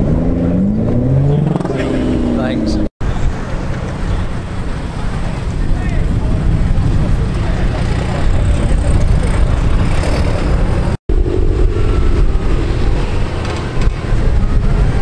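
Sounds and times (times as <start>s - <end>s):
cars driving slowly past: 0.3s - 15.0s.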